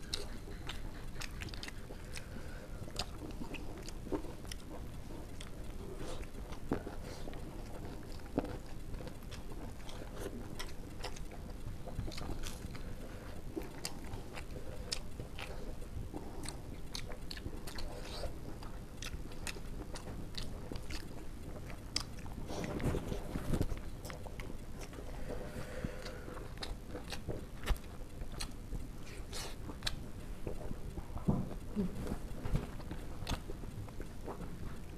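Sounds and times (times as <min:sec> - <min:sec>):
people chewing: 0:00.0 - 0:34.9.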